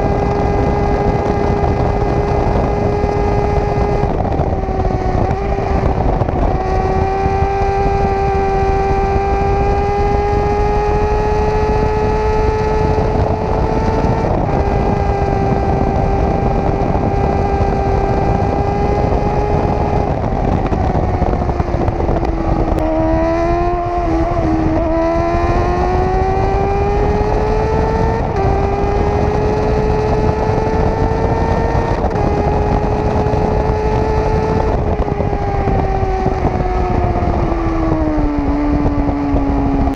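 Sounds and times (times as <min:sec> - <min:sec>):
motorcycle engine at high revs: 0:00.0 - 0:39.9
wind rushing: 0:00.0 - 0:39.9.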